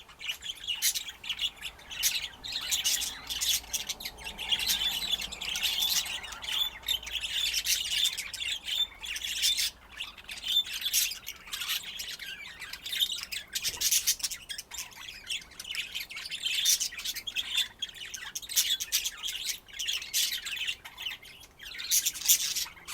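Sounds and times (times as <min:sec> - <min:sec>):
budgerigars chattering: 0:00.0 - 0:22.9.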